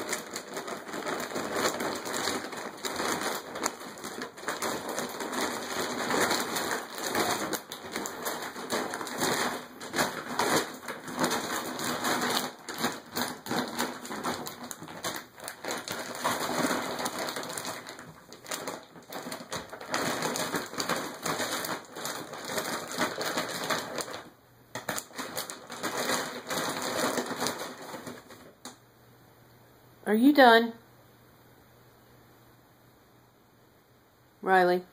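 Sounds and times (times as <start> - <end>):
plastic bag crinkling and rustling: 0.0 - 28.7.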